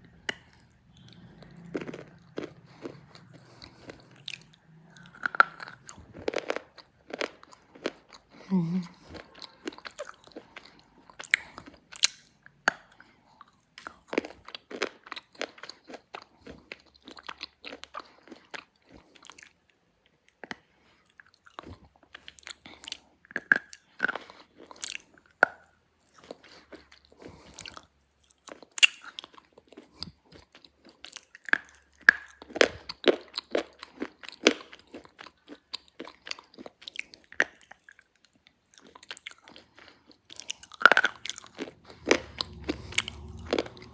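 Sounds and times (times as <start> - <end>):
person biting and chewing slate pencil: 0.0 - 8.4, 9.0 - 19.6, 20.4 - 43.9.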